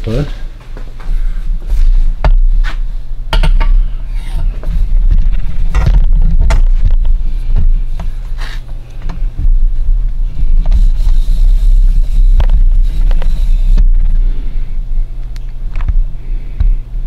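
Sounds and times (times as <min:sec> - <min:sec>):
low microphone rumble: 0:01.1 - 0:17.0.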